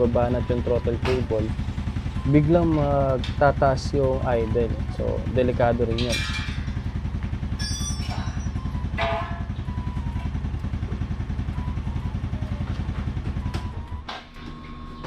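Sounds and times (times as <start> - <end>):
outboard engine idling: 0.0 - 14.1.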